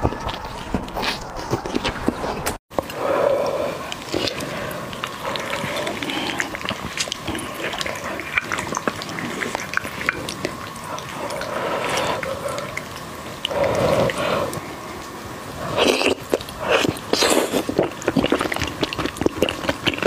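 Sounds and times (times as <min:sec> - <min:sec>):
wet squelching and smacking: 0:03.8 - 0:20.0.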